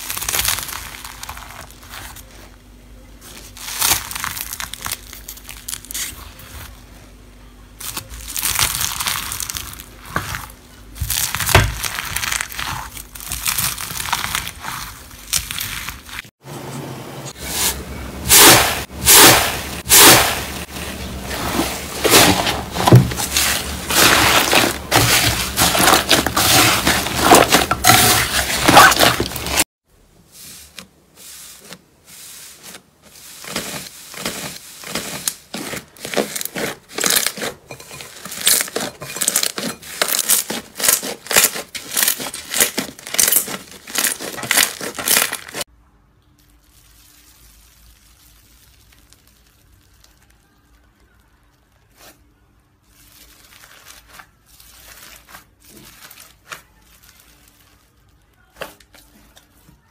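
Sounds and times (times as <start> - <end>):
slime crackling and popping: 0.0 - 2.2, 3.3 - 6.2, 7.8 - 16.3, 18.3 - 29.7, 33.4 - 59.2.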